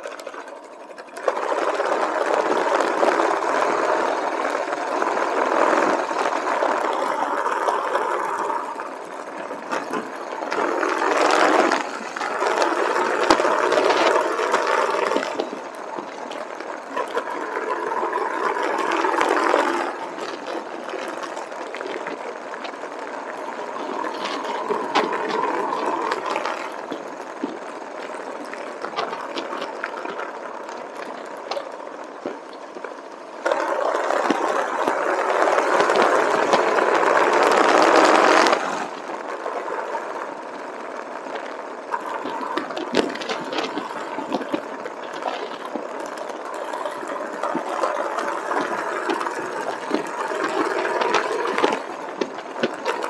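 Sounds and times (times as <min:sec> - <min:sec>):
small clicks and rattles: 0:00.0 - 0:53.0.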